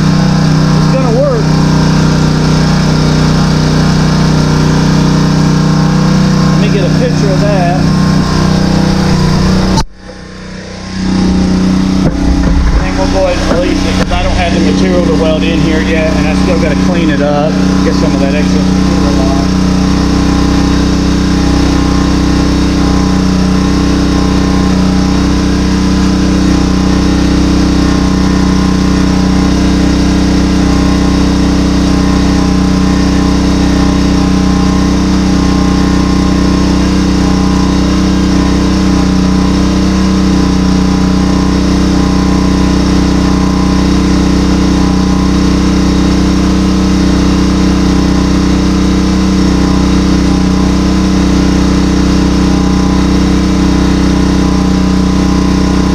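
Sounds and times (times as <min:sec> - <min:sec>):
small engine running steadily: 0:00.0 - 0:55.9.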